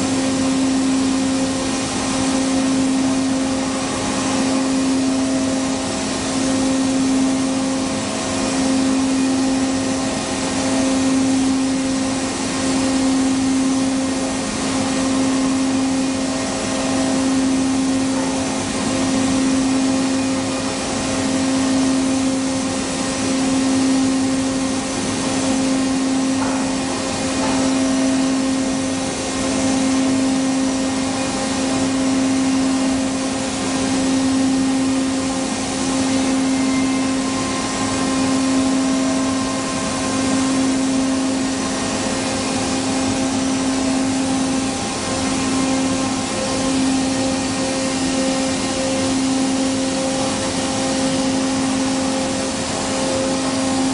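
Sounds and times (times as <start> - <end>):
router machine running: 0.0 - 53.9.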